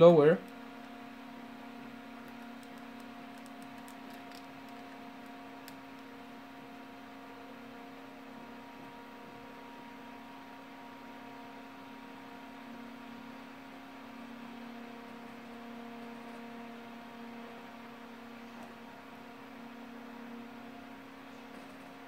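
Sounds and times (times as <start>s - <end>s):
cooling fan humming: 0.0s - 22.0s.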